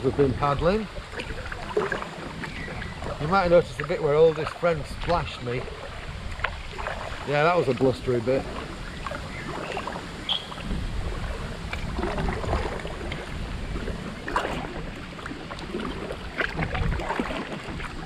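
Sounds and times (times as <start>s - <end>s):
paddle strokes splashing water: 0.0s - 18.0s
wind rumbling on microphone: 0.0s - 18.0s.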